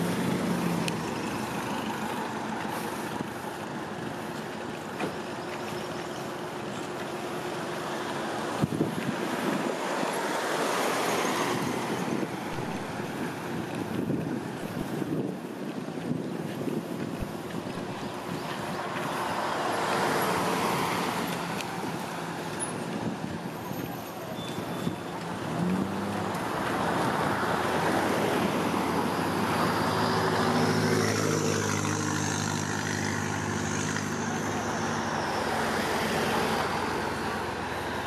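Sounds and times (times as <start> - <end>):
steady engine hum: 0.0 - 23.6, 25.2 - 38.0
vehicles passing: 0.0 - 38.0.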